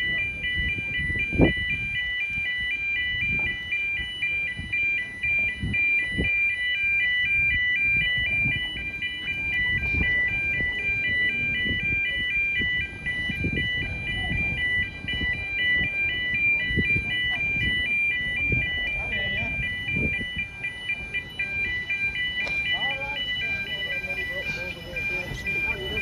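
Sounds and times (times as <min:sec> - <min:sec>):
level crossing two-tone alarm: 0:00.0 - 0:26.0.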